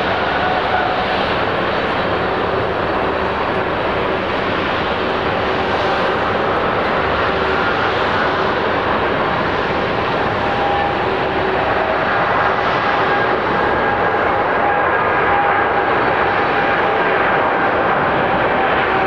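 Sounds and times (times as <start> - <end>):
faint engine whine: 0.0 - 19.0
jet engines roaring: 0.0 - 19.0.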